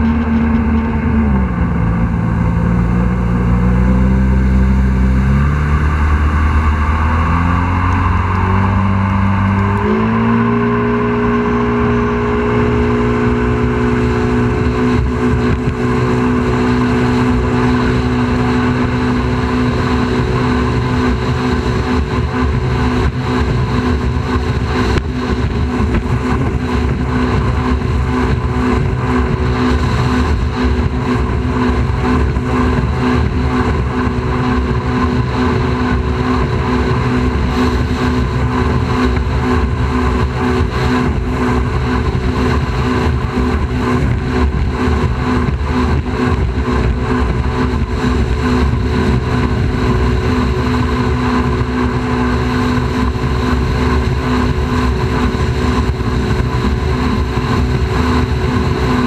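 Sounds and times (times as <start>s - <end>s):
rush of wind and water: 0.0s - 59.0s
small boat engine running: 0.0s - 59.0s.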